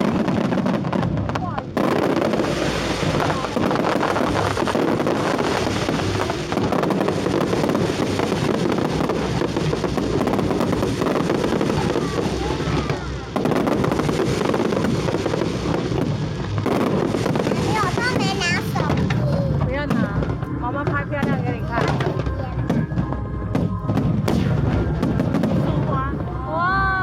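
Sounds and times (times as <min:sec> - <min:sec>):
crowd voices: 0:00.0 - 0:27.0
fireworks bangs and crackles: 0:00.0 - 0:27.0.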